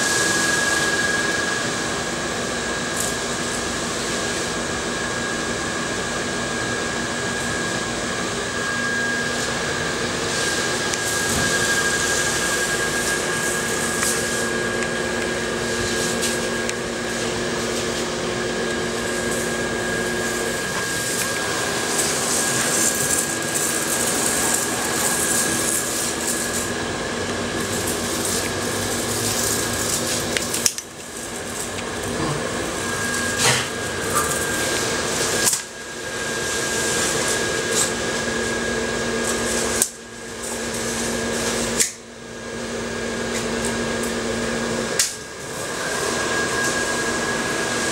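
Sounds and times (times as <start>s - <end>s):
blower fan whirring hum: 0.0s - 47.9s.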